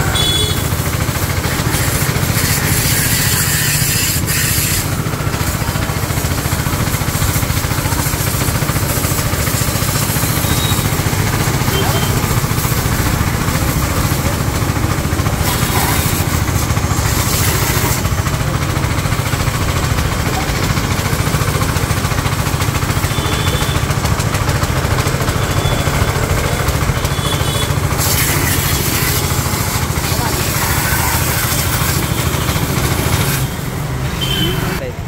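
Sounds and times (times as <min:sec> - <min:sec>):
high-pressure water jet hissing: 0:00.0 - 0:34.8
petrol engine humming: 0:00.0 - 0:35.0.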